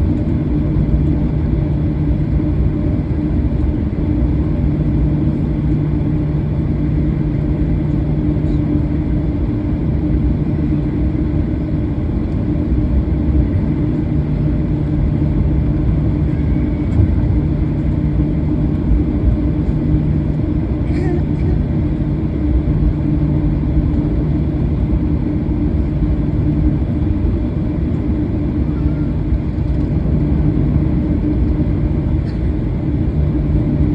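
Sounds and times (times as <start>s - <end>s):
constant cabin hum: 0.0s - 33.9s
jet engines running at low power: 0.0s - 33.9s.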